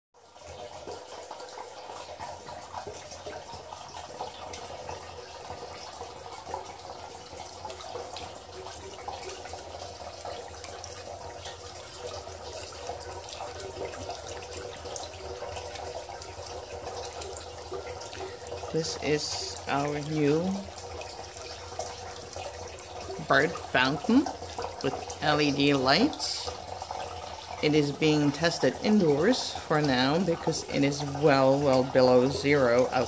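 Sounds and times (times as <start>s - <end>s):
fountain water trickling and splashing: 0.2s - 33.0s
pump low hum: 0.2s - 33.0s.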